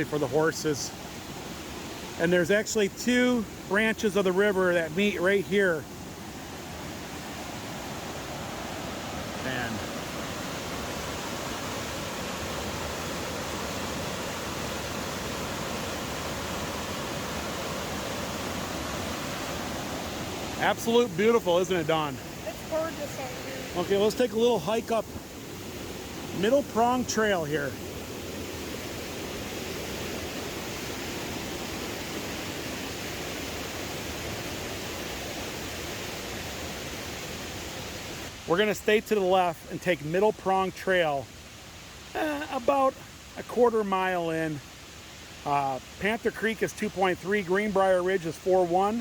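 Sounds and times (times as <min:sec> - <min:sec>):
mountain river rushing: 0:00.0 - 0:49.0.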